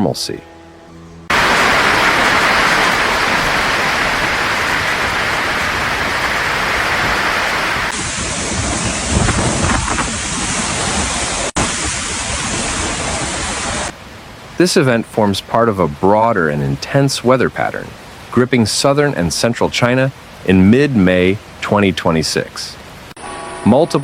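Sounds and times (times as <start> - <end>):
water rushing: 1.2 - 22.2
dull water noise with rumbles: 1.3 - 22.1.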